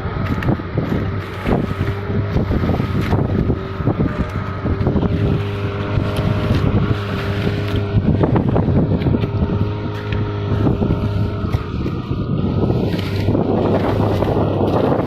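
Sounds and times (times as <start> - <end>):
boat engine humming: 0.0 - 15.0
rough rushing noise: 0.0 - 15.0
wind buffeting microphone: 0.0 - 15.0.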